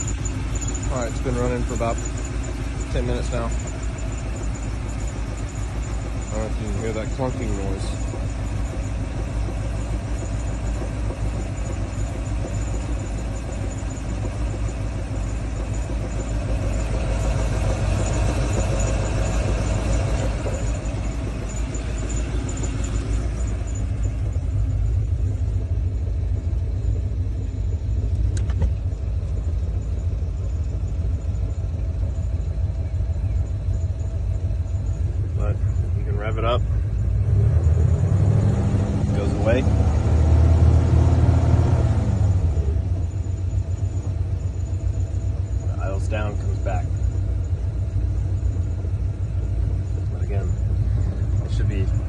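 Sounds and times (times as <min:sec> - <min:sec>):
car engine idling: 0:00.0 - 0:52.0
engine clunking: 0:00.0 - 0:52.0.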